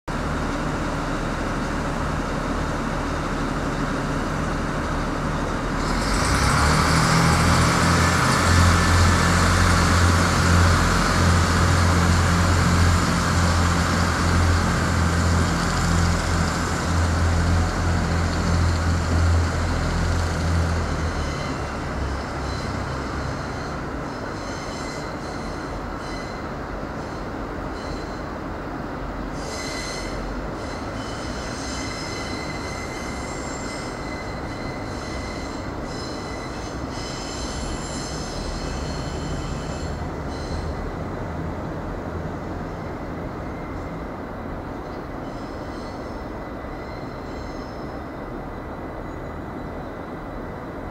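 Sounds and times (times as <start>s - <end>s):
train diesel engines droning: 0.1s - 50.9s
train wheel squeal: 5.8s - 28.4s, 29.3s - 41.1s, 42.6s - 44.1s, 44.7s - 48.3s, 48.9s - 50.6s.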